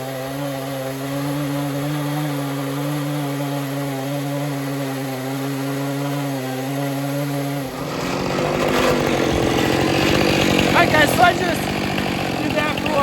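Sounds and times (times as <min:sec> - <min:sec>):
chainsaw cutting log: 0:00.0 - 0:13.0.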